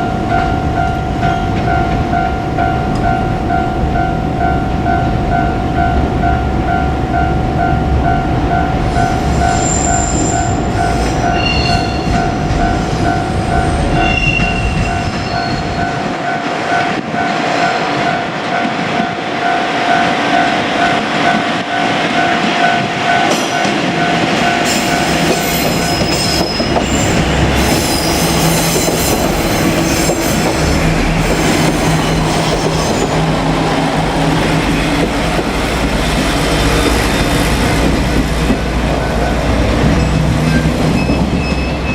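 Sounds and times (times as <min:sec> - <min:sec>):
diesel railcar engines droning: 0:00.0 - 0:41.9.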